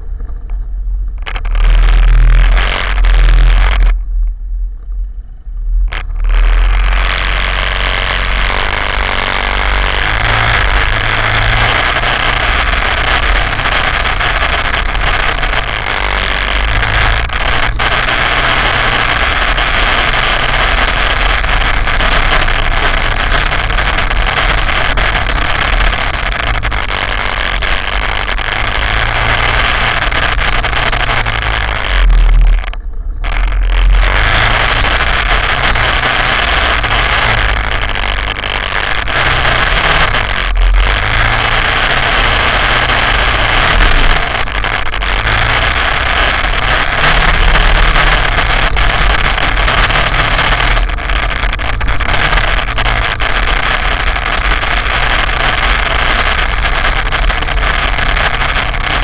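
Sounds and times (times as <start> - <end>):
quad bike engine driving: 0.0 - 59.0.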